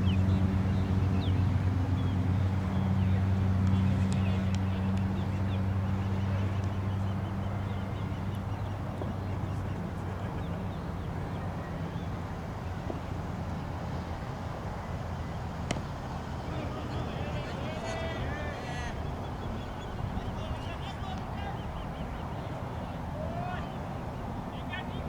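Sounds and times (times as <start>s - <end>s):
low engine-like hum: 0.0s - 25.0s.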